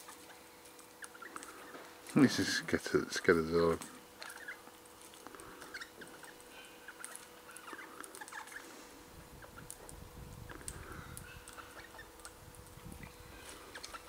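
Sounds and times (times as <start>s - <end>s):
birds pecking clicks: 0.0s - 8.8s, 9.4s - 14.0s
faint steady hum: 0.0s - 14.0s
small birds chirping: 0.0s - 14.0s.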